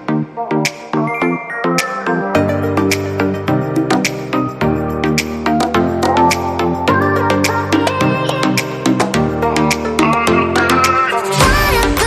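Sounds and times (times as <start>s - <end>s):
electronic instrumental music: 0.0s - 12.0s.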